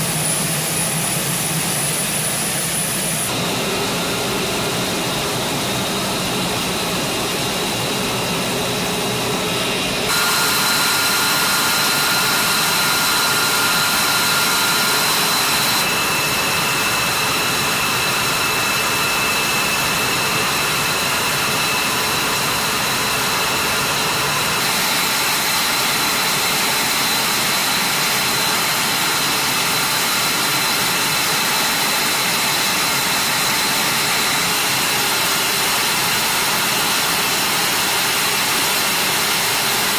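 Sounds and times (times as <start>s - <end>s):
jet engines idling with whine: 0.0s - 39.9s.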